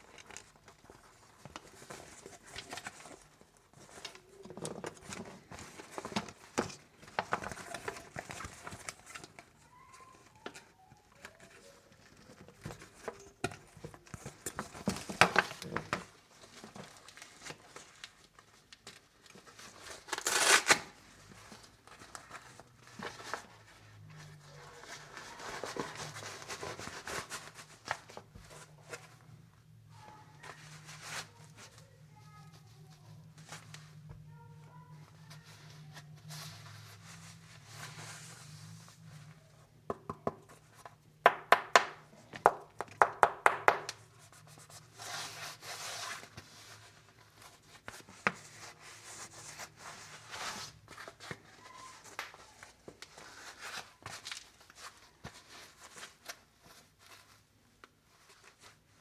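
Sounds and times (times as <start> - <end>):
plastic and paper crinkling: 0.0 - 39.8, 43.8 - 59.0.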